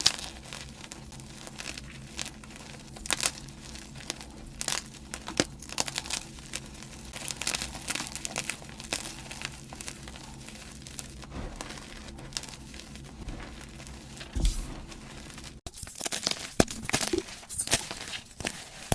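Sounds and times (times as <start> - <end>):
chalk crushed by hand crunching: 0.0 - 18.9.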